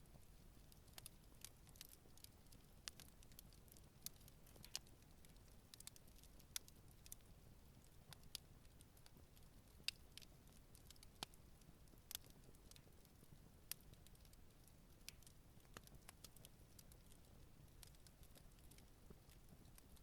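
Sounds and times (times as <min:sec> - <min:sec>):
faint low hiss: 0:00.0 - 0:20.0
campfire crackling and popping: 0:00.2 - 0:20.0.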